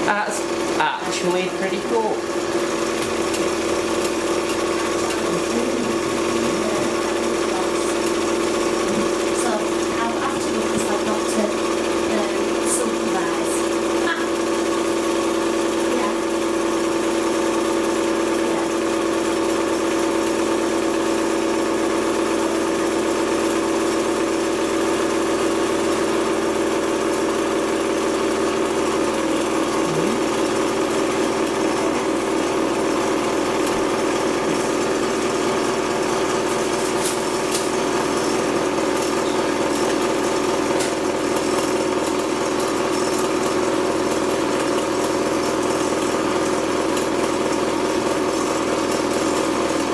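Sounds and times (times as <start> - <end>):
candyfloss machine motor humming: 0.0 - 49.9.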